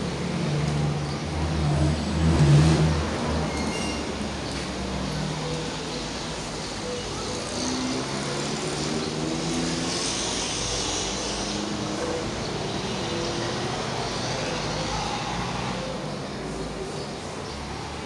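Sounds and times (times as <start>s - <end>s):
city street traffic hum: 0.0s - 18.0s.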